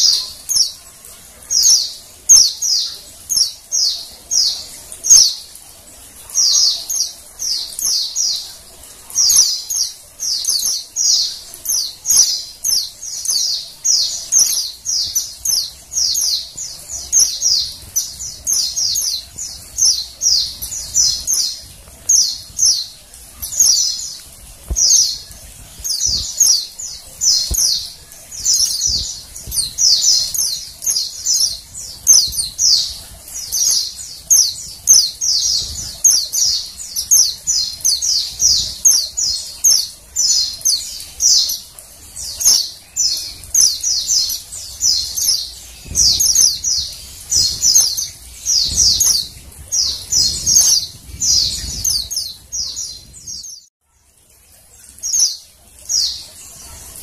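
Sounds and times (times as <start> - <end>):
bird high rapid chirps: 6.2 - 53.7.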